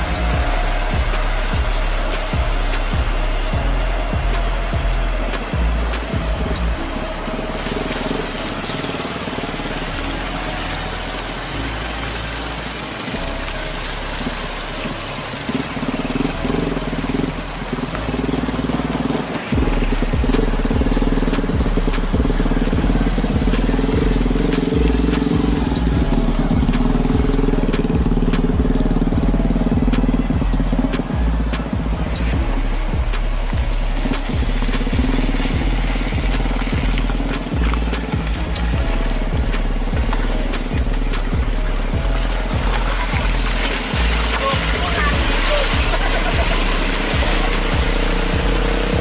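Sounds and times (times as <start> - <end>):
motorcycles passing: 0.0 - 49.0
pickup truck passing: 0.0 - 49.0
truck diesel engine working hard: 0.0 - 49.0.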